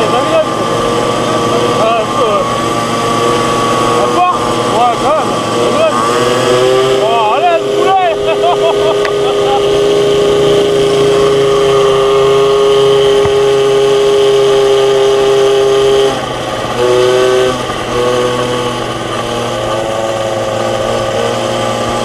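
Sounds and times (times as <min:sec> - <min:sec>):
moped engine running: 0:00.0 - 0:22.0.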